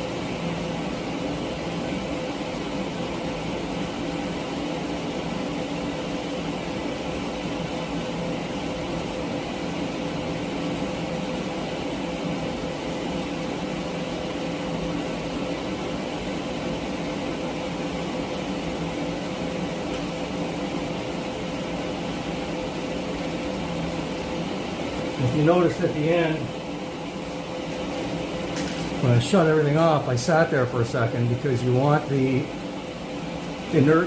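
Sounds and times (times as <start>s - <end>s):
welding arc buzzing and hissing: 0.0s - 34.0s.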